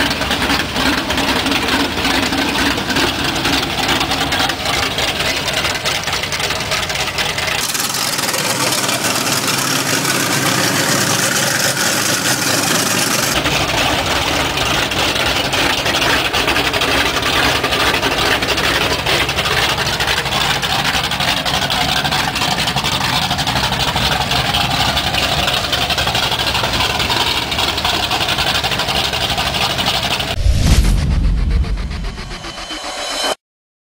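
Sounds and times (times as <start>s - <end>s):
truck engines running loudly: 0.0s - 30.4s.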